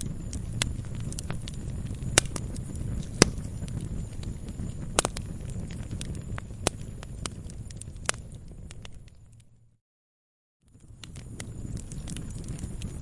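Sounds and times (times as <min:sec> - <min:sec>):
loud fire pops: 0:00.0 - 0:09.6, 0:10.7 - 0:13.0
wood fire crackling: 0:00.0 - 0:09.7, 0:10.7 - 0:13.0
low fire rumble: 0:00.0 - 0:09.8, 0:10.6 - 0:13.0.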